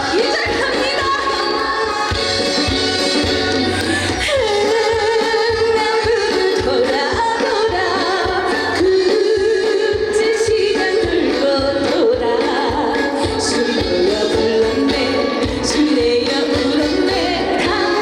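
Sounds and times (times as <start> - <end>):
woman singing: 0.0 - 2.3, 3.8 - 18.0
backing track with drum beat: 0.0 - 18.0.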